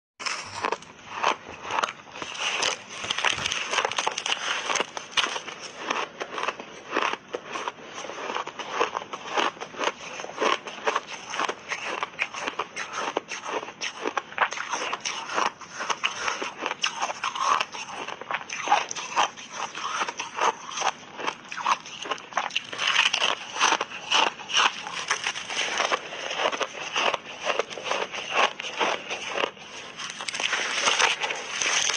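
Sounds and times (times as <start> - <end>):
ice crunching being chewed: 0.2 - 31.9.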